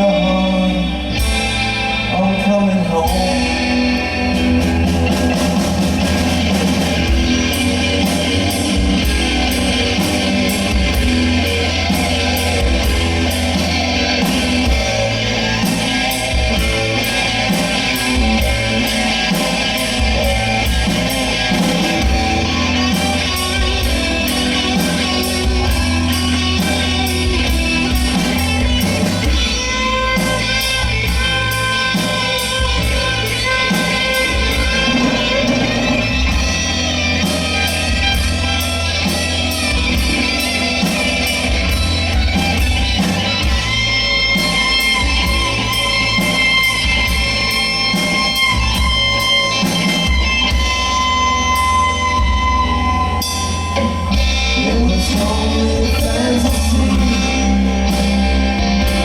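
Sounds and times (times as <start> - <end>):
electric guitar playing: 0.0 - 59.0
drum beat: 4.5 - 52.7.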